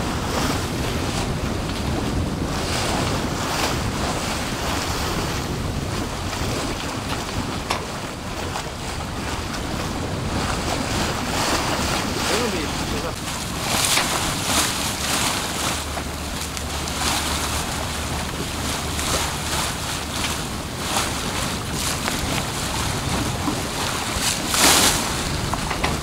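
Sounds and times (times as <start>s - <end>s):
water rushing along hull: 0.0s - 26.0s
wind buffeting microphone: 0.0s - 26.0s.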